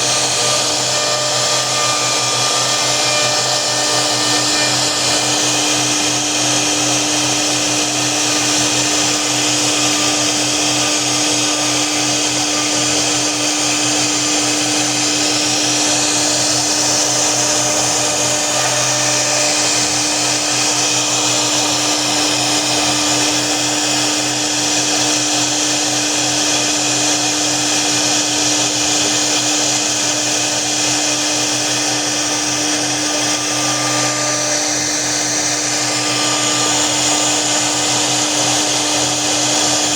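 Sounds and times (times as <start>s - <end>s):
cnc router spindle cutting: 0.0s - 39.9s.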